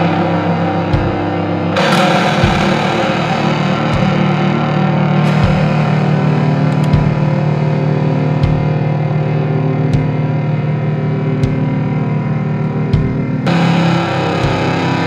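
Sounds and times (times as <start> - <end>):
low drum beat: 0.0 - 10.4, 11.2 - 12.0, 12.8 - 15.0
distorted electric guitar chords: 0.0 - 15.0.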